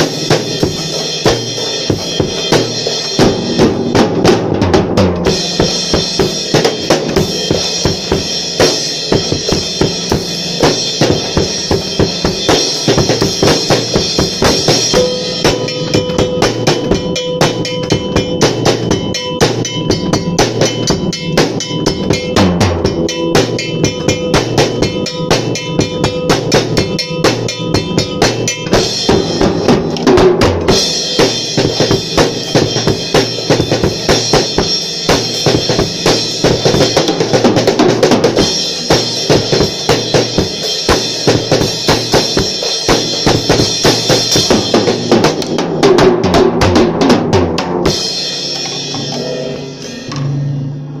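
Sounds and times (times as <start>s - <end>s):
cymbals ringing: 0.0s - 4.2s, 5.2s - 45.8s, 47.8s - 51.0s
drum kit playing fast beat: 0.0s - 50.4s.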